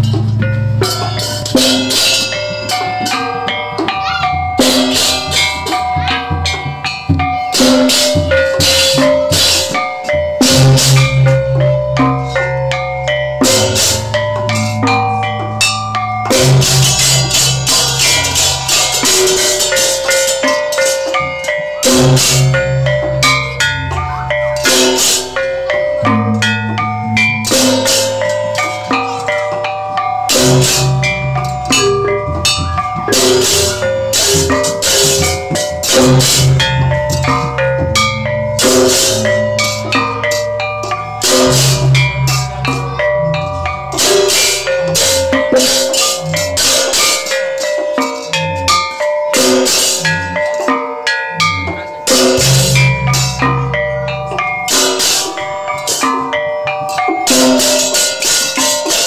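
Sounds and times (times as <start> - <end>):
hand cymbals crashing: 0.0 - 59.0
kettle gongs ringing: 0.4 - 59.0.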